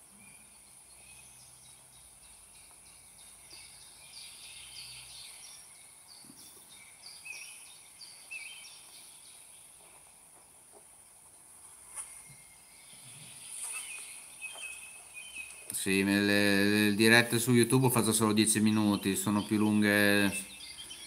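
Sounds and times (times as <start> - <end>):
small bird chirping: 0.0 - 17.0, 17.6 - 21.0
steady high hiss: 0.0 - 21.0.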